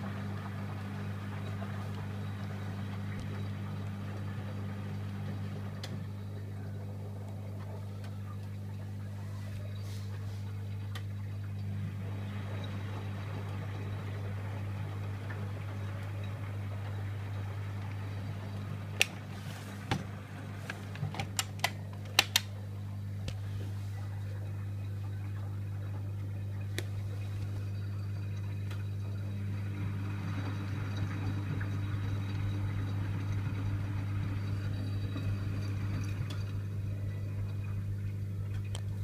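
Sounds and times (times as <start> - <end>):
washing machine humming: 0.0 - 39.0.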